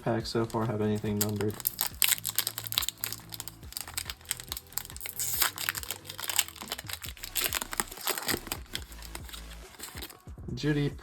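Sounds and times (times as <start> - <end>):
cards rustling: 0.0 - 10.2
wrapper crinkling: 0.0 - 10.2.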